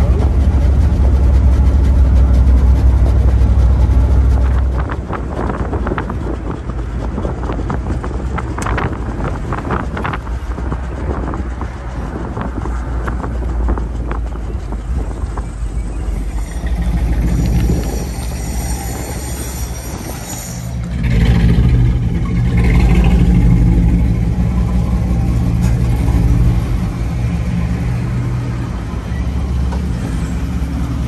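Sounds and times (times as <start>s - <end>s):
car engine running: 0.0s - 19.4s, 20.7s - 31.0s
road and wind noise: 0.0s - 31.0s.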